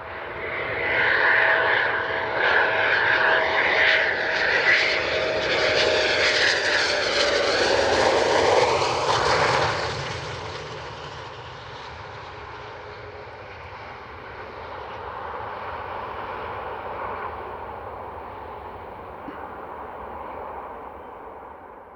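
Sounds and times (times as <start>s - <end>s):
jet engines roaring: 0.0s - 21.9s.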